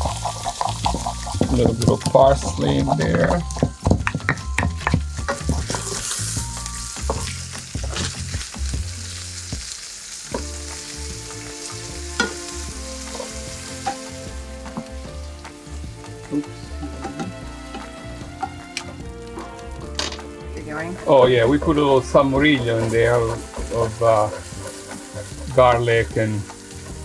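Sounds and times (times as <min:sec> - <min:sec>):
fish sizzling in oil: 0:00.0 - 0:27.0.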